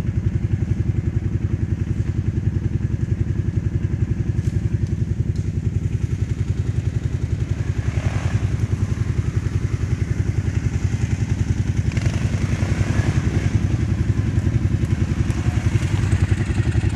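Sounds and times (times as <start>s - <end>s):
atv engine idling: 0.0s - 16.9s.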